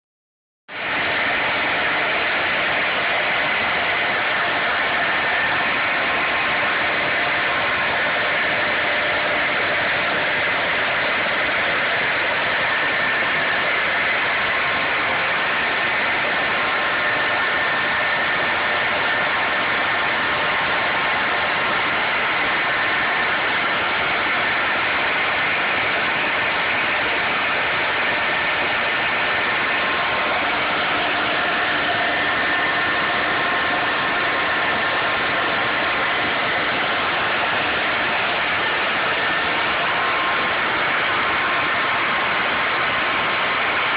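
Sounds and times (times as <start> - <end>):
machine whirring: 0.8 - 43.9.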